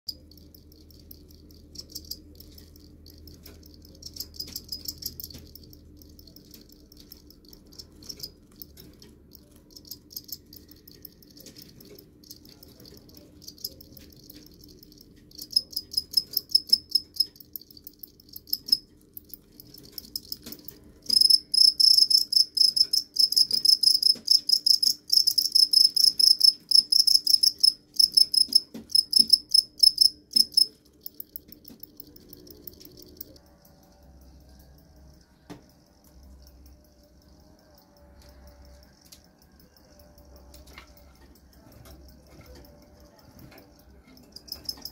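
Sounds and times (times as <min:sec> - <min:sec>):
crickets chirping: 0:00.1 - 0:44.9.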